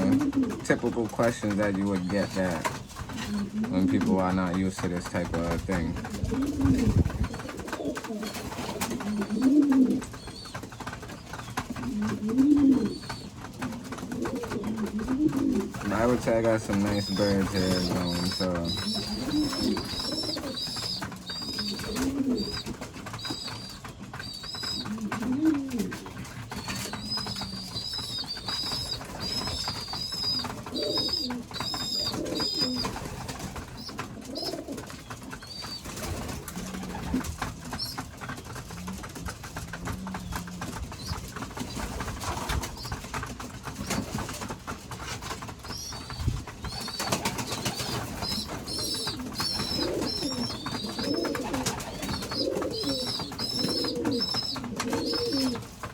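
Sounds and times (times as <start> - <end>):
pigeons cooing: 0.0 - 55.9
young pigeons peeping: 0.0 - 55.9.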